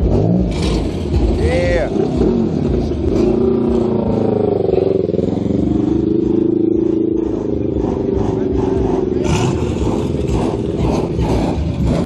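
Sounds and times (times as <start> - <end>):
car engine and exhaust running: 0.0 - 12.0.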